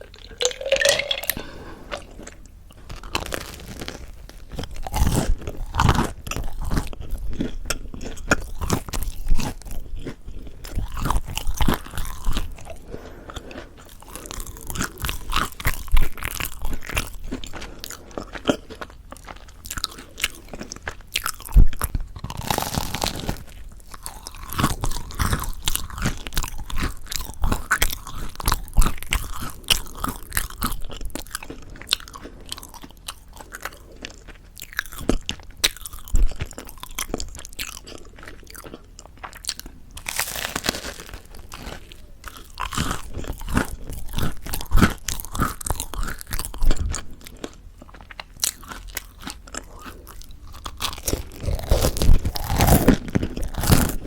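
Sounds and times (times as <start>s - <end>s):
crunching and chewing rice bread: 1.4s - 54.0s.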